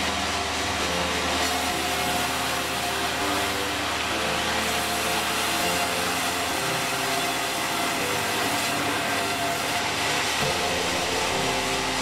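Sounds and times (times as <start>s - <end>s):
sawmill machinery droning: 0.0s - 12.0s.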